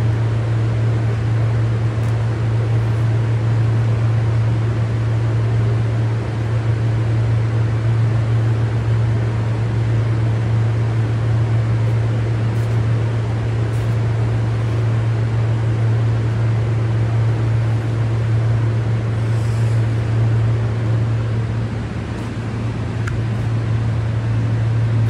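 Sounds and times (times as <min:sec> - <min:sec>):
fan-like rush of air: 0:00.0 - 0:25.0
low electrical hum: 0:00.0 - 0:25.0.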